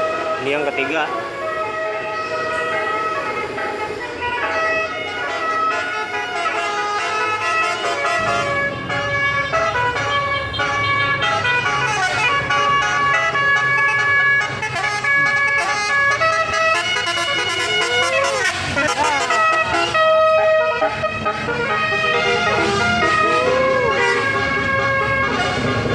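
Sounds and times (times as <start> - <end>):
bus engine drone: 0.0 - 25.9
multi-tone bus horn melody: 0.0 - 25.9.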